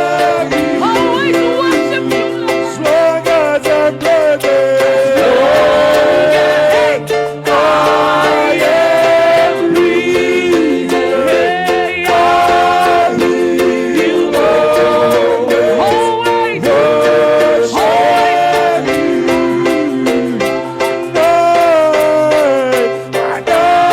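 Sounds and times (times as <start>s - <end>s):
instrumental accompaniment: 0.0s - 23.9s
voices singing held notes: 0.0s - 23.9s.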